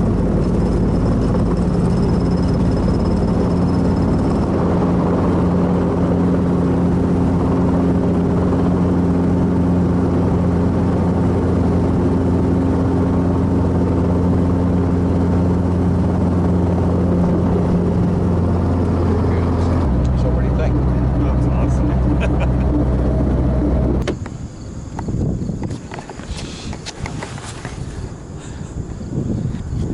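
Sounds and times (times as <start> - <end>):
helicopter engine and rotor drone: 0.0 - 27.3.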